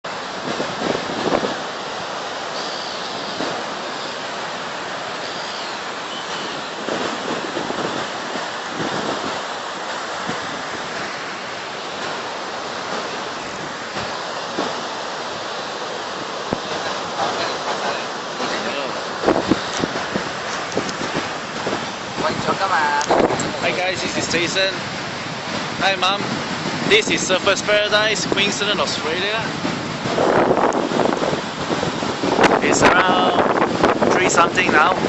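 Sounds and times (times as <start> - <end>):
ocean surf breaking: 0.0 - 35.0
wind buffeting microphone: 0.1 - 35.0.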